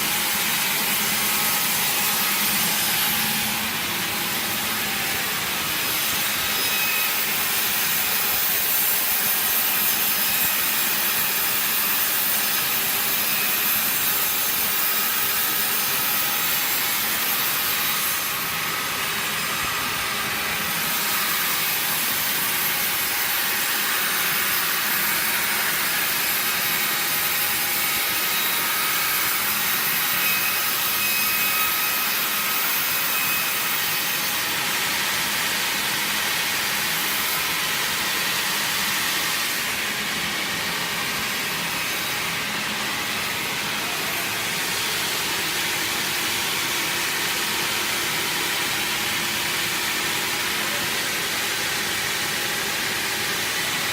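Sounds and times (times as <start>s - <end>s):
sawmill machinery sawing wood: 0.1s - 34.9s, 36.6s - 53.9s.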